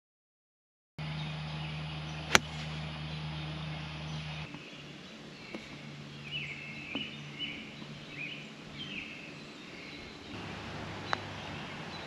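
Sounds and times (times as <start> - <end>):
birds chirping: 1.0 - 12.0
outdoor background noise: 1.0 - 12.0.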